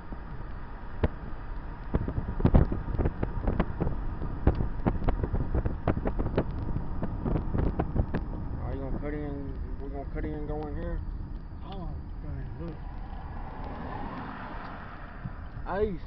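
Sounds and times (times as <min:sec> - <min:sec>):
road noise inside moving vehicle: 0:00.0 - 0:16.0.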